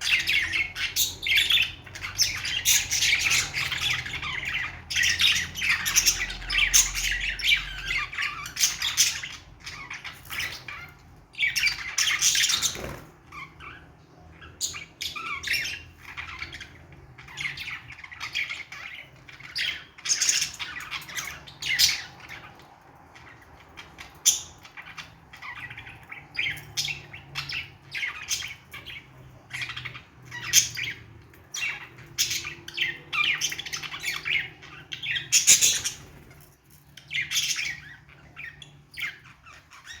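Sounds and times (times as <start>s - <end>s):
budgies chattering: 0.0s - 40.0s.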